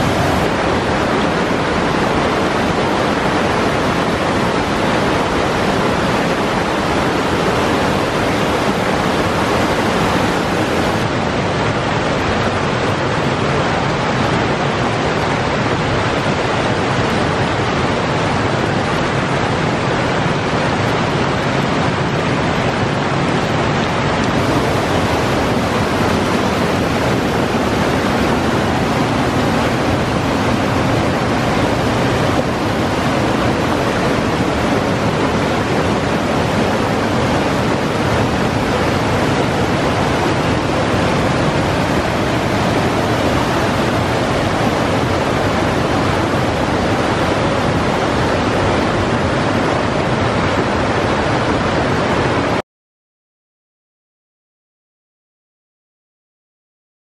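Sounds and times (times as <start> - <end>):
waterfall rushing over boulders: 0.0 - 52.6.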